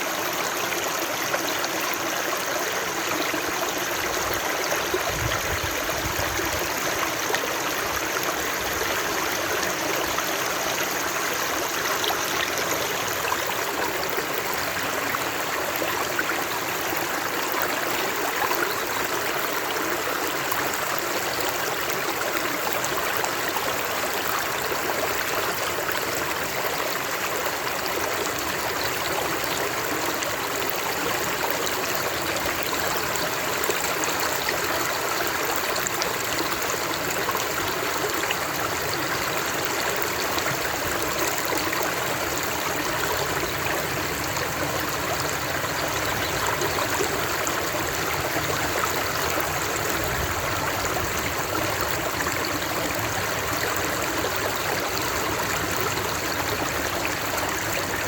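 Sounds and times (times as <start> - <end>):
stream water rushing and trickling: 0.0 - 58.0.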